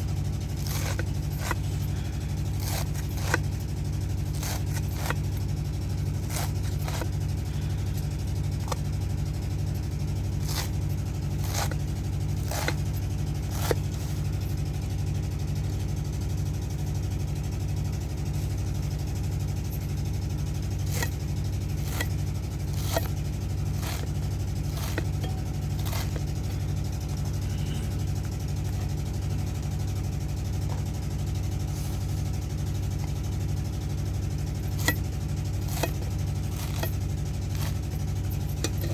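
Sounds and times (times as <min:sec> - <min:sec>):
low pulsing engine drone: 0:00.0 - 0:38.9.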